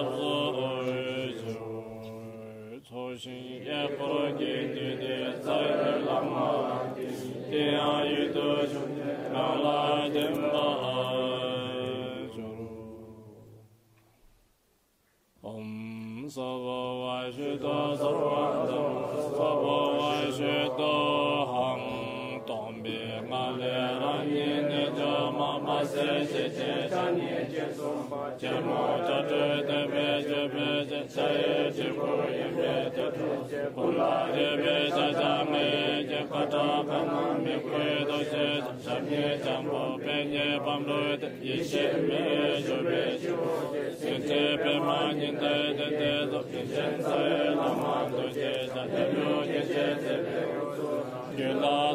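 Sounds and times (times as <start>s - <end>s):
mantra chanting: 0.0s - 13.7s, 15.4s - 51.9s.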